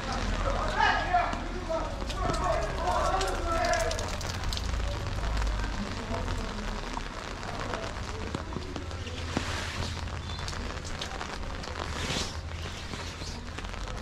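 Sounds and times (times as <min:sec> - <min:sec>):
rain on street: 0:00.0 - 0:14.0.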